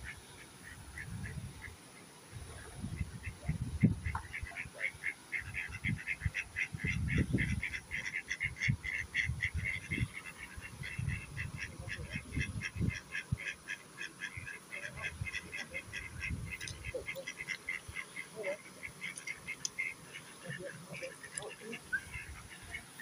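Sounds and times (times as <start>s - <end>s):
birds chattering: 2.6s - 23.0s.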